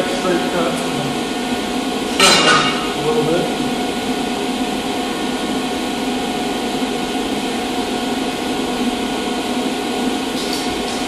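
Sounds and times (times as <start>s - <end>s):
shop machinery humming: 0.0s - 11.0s.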